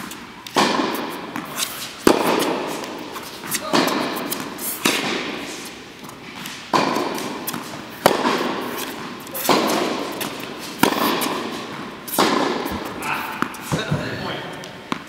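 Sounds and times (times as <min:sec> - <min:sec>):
tennis ball struck by rackets: 0:00.0 - 0:14.0
tennis ball bouncing on court: 0:00.0 - 0:15.0.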